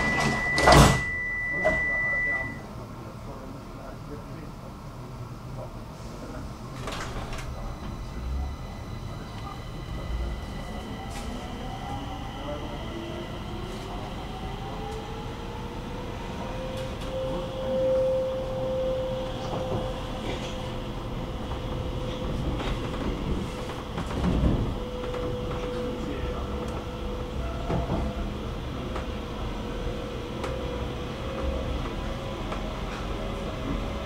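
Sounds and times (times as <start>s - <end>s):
train rushing in tunnel: 0.0s - 34.0s
wheel on rail rumble: 6.7s - 34.0s.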